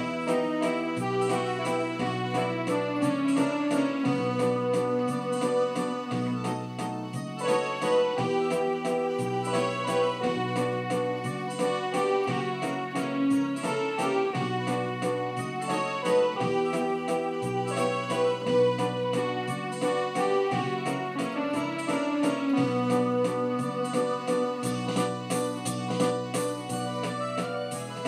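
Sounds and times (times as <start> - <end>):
rhythm accompaniment beat: 0.0 - 28.0
synthesizer playing folk melody: 0.0 - 28.0.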